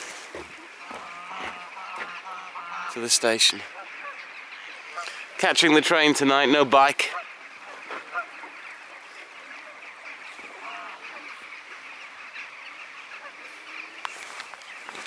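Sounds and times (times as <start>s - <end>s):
geese and ducks calling: 0.0s - 15.0s.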